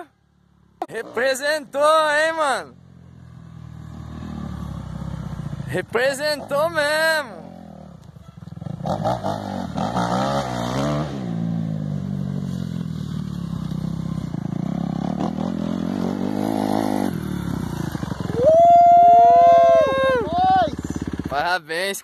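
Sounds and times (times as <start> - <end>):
dirt bike engine revving: 0.8 - 21.6.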